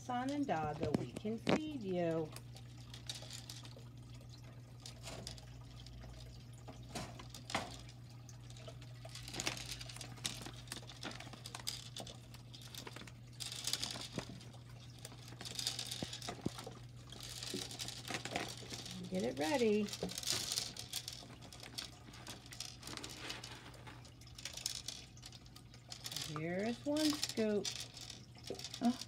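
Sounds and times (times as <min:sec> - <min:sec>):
water trickling in a tank: 0:00.0 - 0:29.0.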